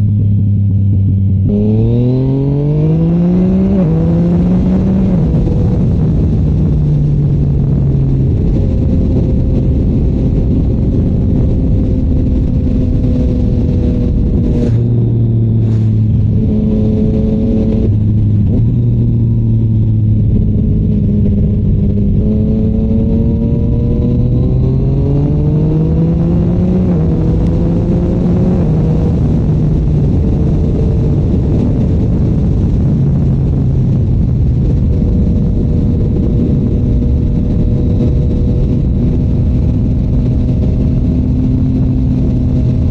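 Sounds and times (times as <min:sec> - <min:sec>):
motorcycle engine accelerating: 0:00.0 - 0:42.9
wind noise: 0:00.0 - 0:42.9.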